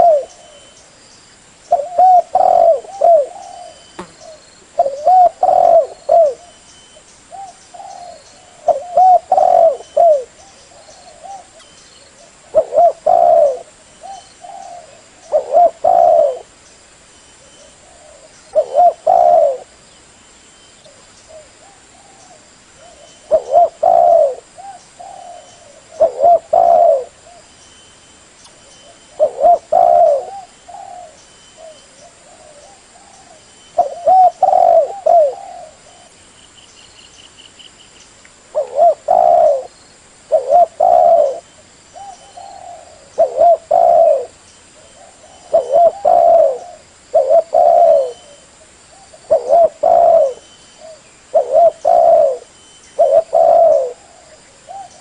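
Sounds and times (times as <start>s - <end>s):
dove cooing: 0.0s - 0.8s, 1.7s - 6.6s, 7.3s - 16.5s, 17.4s - 19.7s, 20.9s - 27.5s, 28.8s - 36.2s, 38.5s - 39.7s, 40.3s - 55.0s.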